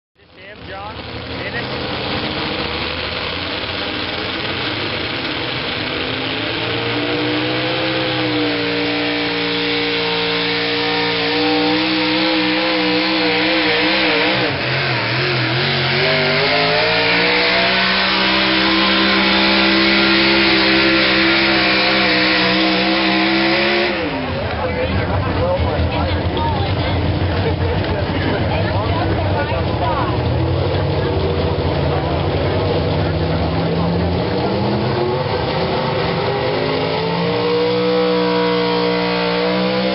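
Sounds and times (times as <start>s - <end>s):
truck engine at full throttle: 0.2s - 39.9s.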